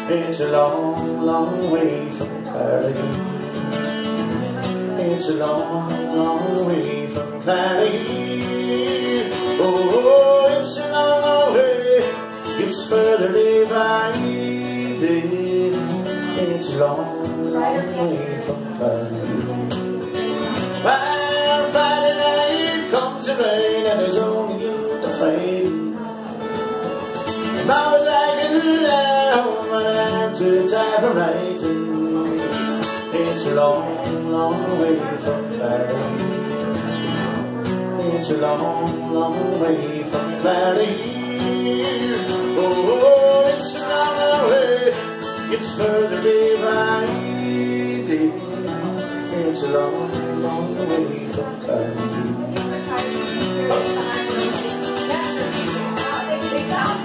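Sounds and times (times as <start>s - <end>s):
country-folk acoustic guitar music: 0.0s - 57.0s.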